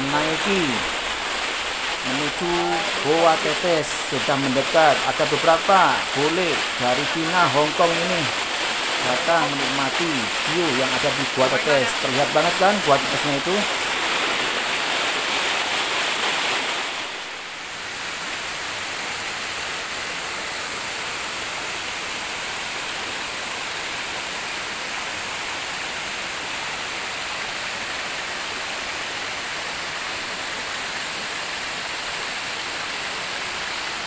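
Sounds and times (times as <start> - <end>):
water rushing over rock steps: 0.0 - 34.0.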